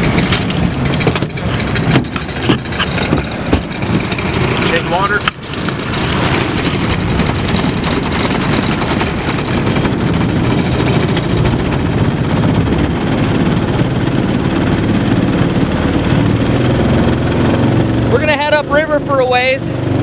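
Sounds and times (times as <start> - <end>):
single-cylinder engine running: 0.0 - 20.0.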